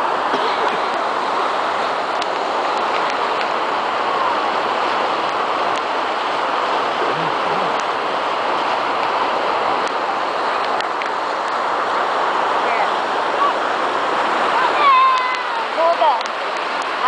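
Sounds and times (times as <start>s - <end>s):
heavy rain: 0.0s - 17.0s
running water: 0.0s - 17.0s.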